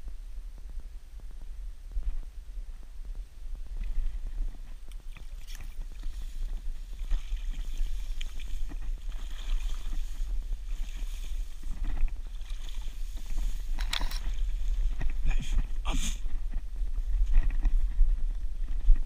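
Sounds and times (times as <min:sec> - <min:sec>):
wind rumble on microphone: 0:00.0 - 0:19.0
microphone handling noise: 0:00.6 - 0:19.0
grass and reeds rustling: 0:03.5 - 0:19.0.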